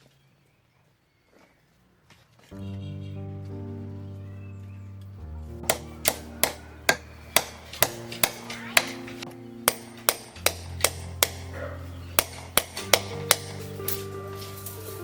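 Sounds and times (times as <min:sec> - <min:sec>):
soft background music: 0:02.5 - 0:15.0.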